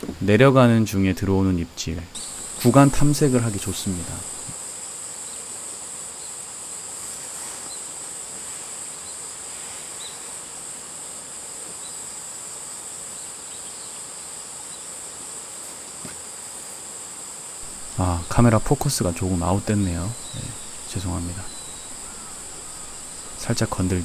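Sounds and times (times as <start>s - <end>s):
insects chirring drone: 2.1s - 24.0s.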